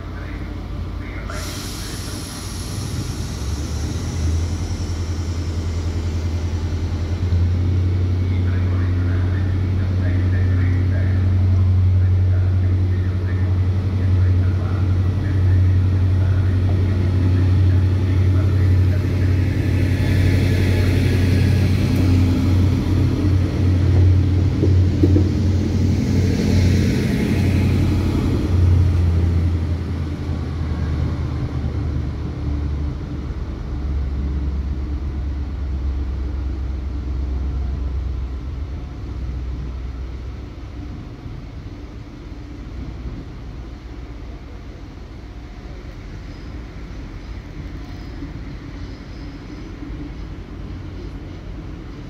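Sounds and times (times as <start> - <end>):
diesel train engine running: 0.0 - 52.0.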